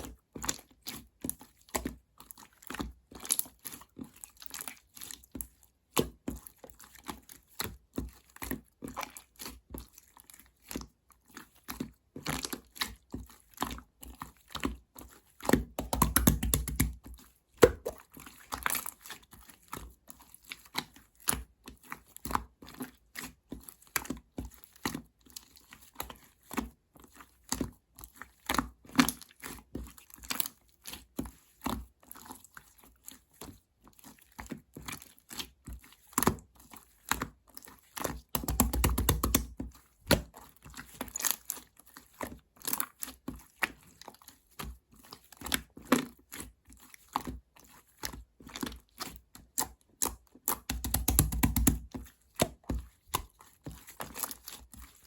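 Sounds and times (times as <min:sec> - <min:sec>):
small clicks taps and crinkles: 0:00.0 - 0:55.0.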